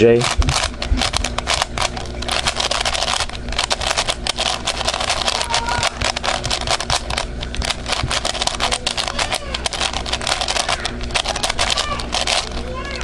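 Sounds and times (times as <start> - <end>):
low hum: 0.0 - 13.0
plastic puzzle cube clicking: 0.2 - 12.6.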